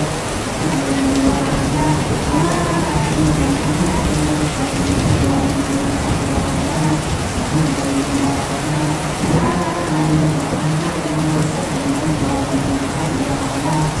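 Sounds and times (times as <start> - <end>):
heavy rain: 0.0 - 14.0
man softly chanting: 0.0 - 14.0.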